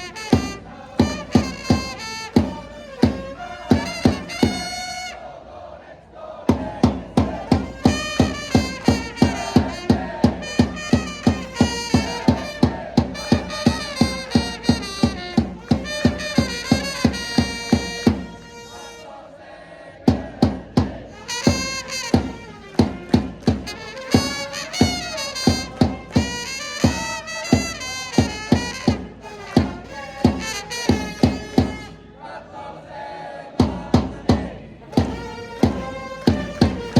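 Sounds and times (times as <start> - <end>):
drum beat: 0.0 - 5.0, 6.5 - 18.8, 20.1 - 32.0, 33.6 - 36.9
trumpets playing: 0.0 - 5.6, 7.3 - 19.6, 21.1 - 32.4, 34.8 - 36.9
crowd singing and chanting: 0.0 - 36.9.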